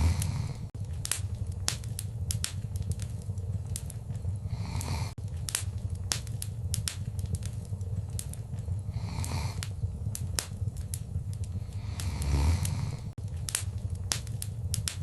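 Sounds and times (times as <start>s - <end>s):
fire popping and snapping: 0.0s - 15.0s
low rumble of flames: 0.0s - 15.0s
wood fire crackling: 0.0s - 15.0s.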